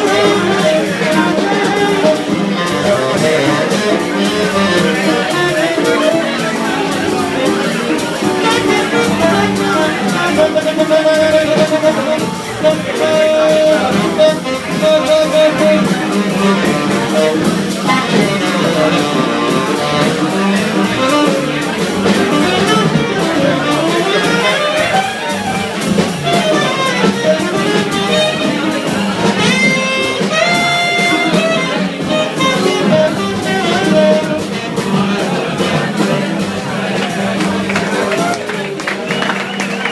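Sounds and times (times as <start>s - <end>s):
small jazz group playing: 0.0s - 39.9s.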